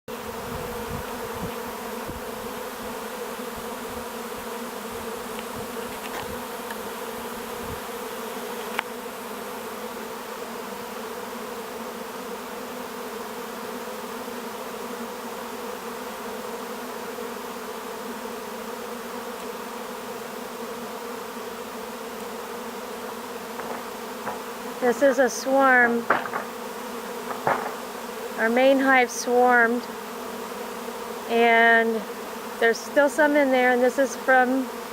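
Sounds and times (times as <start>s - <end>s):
bee swarm buzzing: 0.1s - 34.9s.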